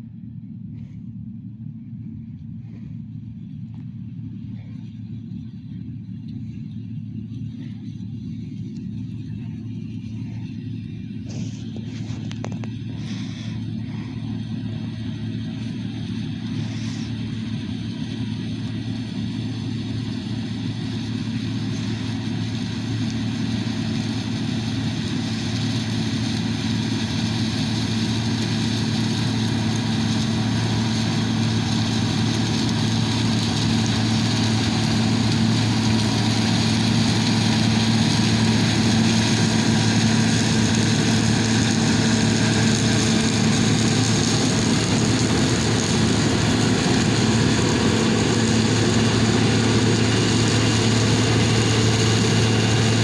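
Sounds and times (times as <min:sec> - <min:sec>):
combine harvester droning: 0:00.0 - 0:53.0.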